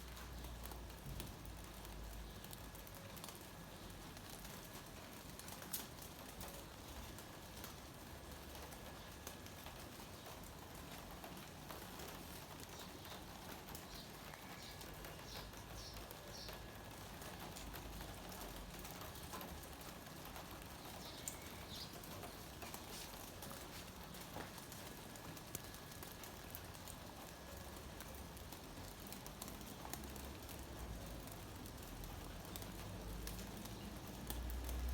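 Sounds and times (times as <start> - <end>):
rain pattering on hard surfaces: 0.0 - 34.9.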